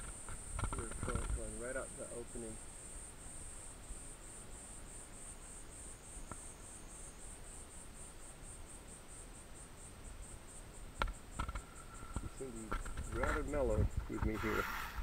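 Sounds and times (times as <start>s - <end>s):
insect chirping in rapid pulses: 0.0s - 15.0s.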